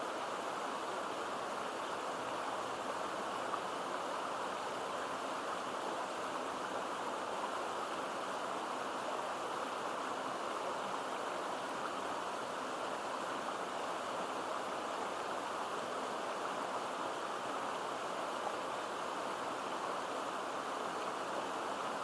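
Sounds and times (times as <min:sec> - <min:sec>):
stream babbling over rocks: 0:00.0 - 0:22.0.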